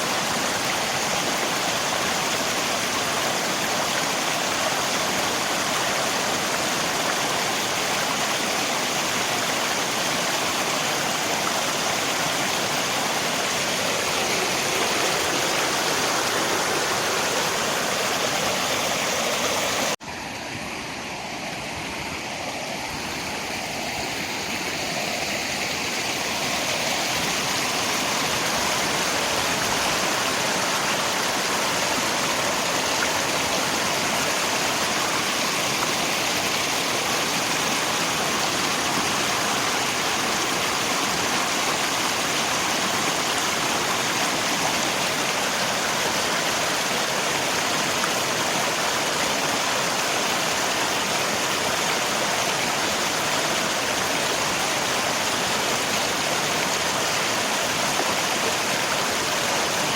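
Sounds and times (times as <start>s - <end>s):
rain: 0.0s - 59.9s
river water rushing: 0.0s - 59.9s.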